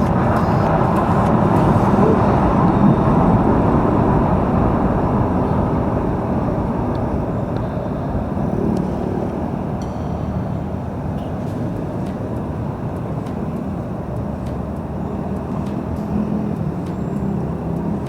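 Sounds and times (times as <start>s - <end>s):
heavy highway traffic: 0.0s - 18.0s
vehicles passing close by: 0.0s - 18.0s.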